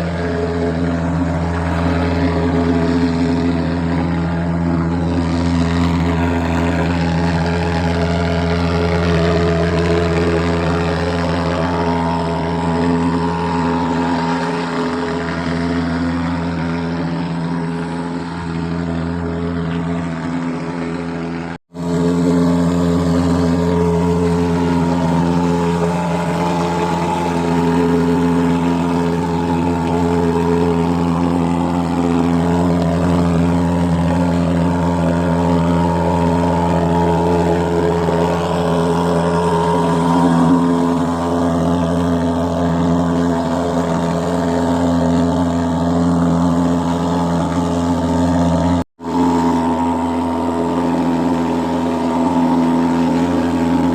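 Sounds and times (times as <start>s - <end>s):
fogging machine engine drone: 0.0s - 53.9s.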